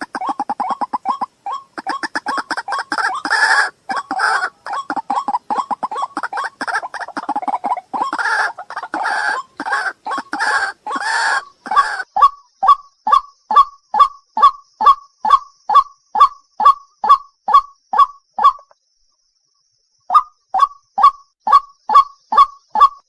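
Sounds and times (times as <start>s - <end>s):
bird rasping croaks: 0.0s - 18.8s
bird repeated single notes: 0.0s - 19.0s, 20.1s - 23.0s.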